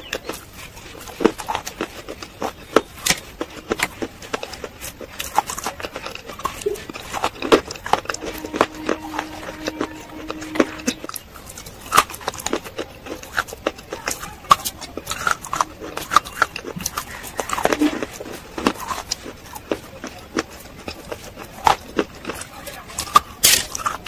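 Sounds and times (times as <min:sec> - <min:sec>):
crunchy food being chewed: 0:00.0 - 0:09.7, 0:11.2 - 0:24.0.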